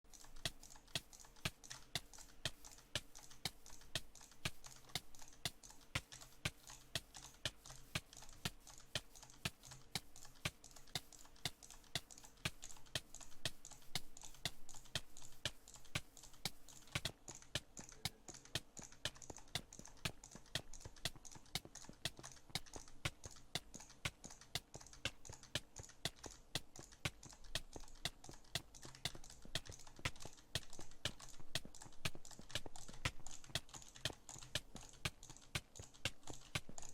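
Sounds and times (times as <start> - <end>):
sharp clicks: 0.1 - 36.9.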